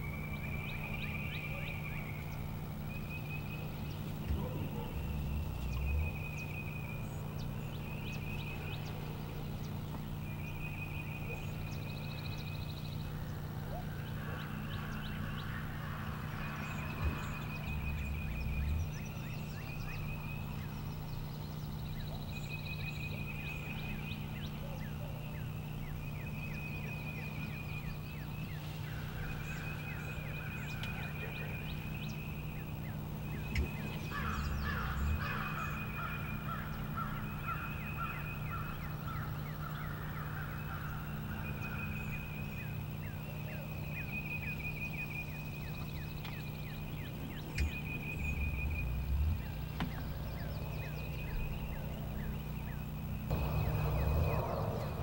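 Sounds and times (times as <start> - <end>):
turkey drumming hum: 1.5 - 55.0.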